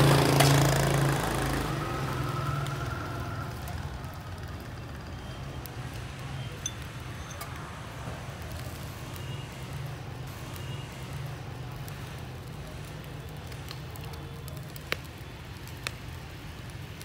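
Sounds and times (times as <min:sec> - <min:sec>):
charcoal crackles: 0:00.0 - 0:17.0
fish sizzling on grill: 0:00.0 - 0:17.0.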